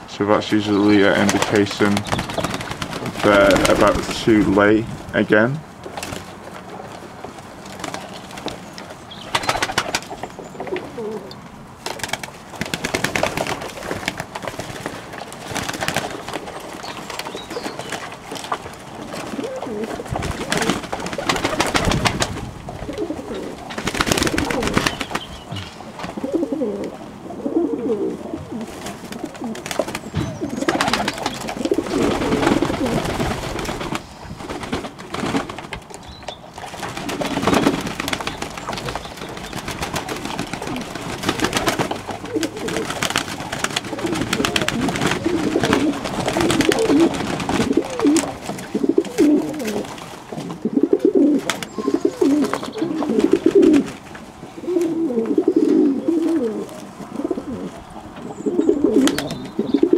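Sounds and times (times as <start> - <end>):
pigeons cooing: 0.0 - 4.6, 7.8 - 11.4, 12.1 - 35.5, 36.7 - 59.9
rustling: 5.8 - 59.9.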